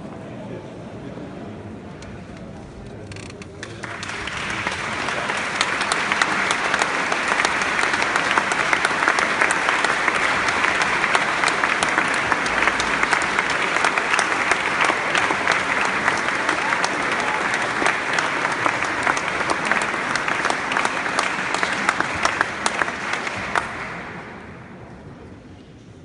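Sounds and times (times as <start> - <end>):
audience applauding: 3.2 - 24.6.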